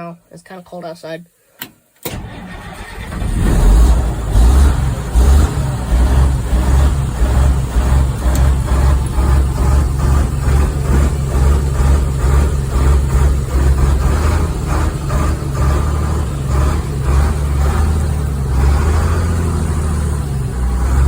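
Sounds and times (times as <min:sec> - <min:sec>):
diesel truck engine running: 0:02.1 - 0:21.0.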